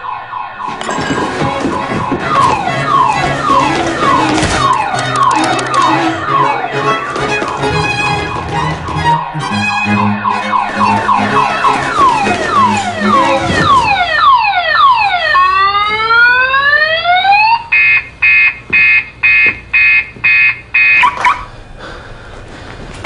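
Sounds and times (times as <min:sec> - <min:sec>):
alarm siren whoops and beeps: 0:00.0 - 0:21.5.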